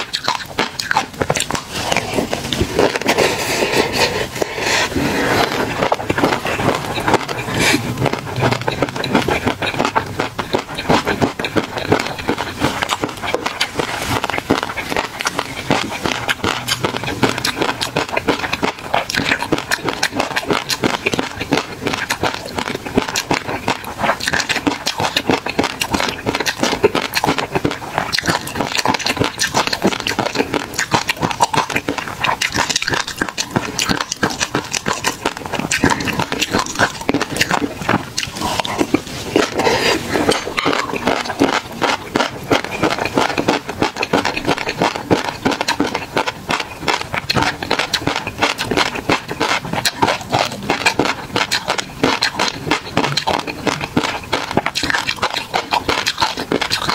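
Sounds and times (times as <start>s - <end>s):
fish roe popping while chewing: 0.0s - 56.9s
wet mouth sounds: 0.0s - 56.9s.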